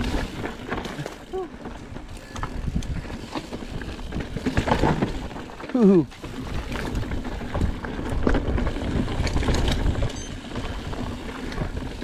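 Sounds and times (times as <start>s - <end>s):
bike rattling and clattering: 0.0s - 12.0s
tyres crunching over loose stones: 0.0s - 12.0s.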